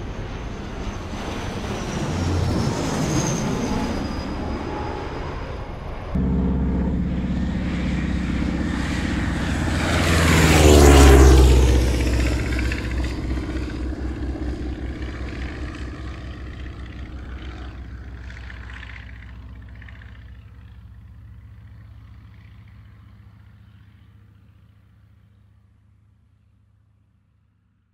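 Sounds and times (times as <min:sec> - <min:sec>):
propeller aircraft engines droning: 0:00.0 - 0:24.9.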